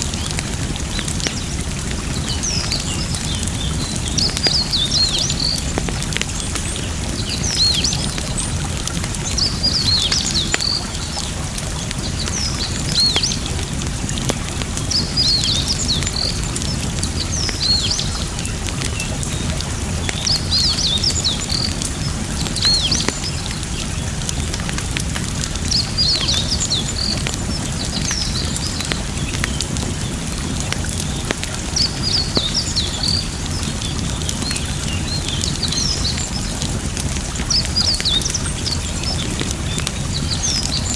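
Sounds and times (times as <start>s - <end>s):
birds chirping: 0.0s - 40.9s
campfire crackling and popping: 0.0s - 40.9s
flowing water: 0.0s - 40.9s.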